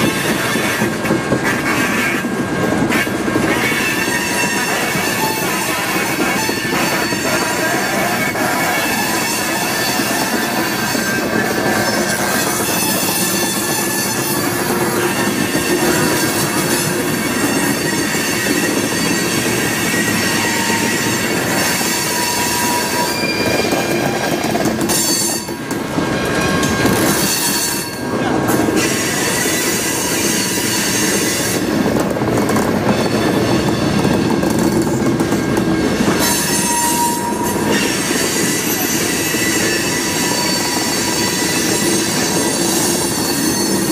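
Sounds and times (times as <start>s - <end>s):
rumble of wheels on rail: 0.0s - 43.9s
high-pitched wheel squeals: 3.5s - 25.6s, 26.3s - 31.7s, 35.3s - 43.9s.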